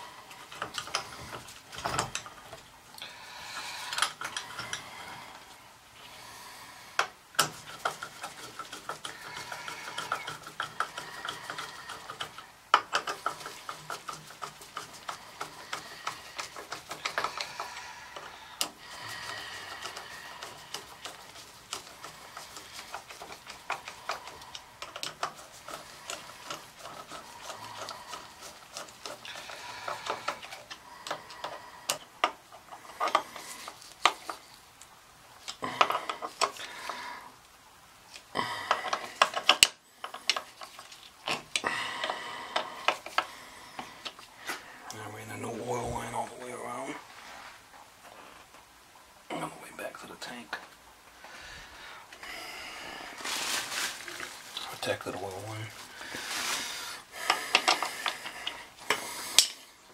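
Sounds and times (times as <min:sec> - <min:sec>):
hand tools ticking and scraping metal: 0:00.0 - 0:05.5, 0:07.0 - 0:37.4, 0:38.1 - 0:46.9, 0:53.3 - 0:59.8.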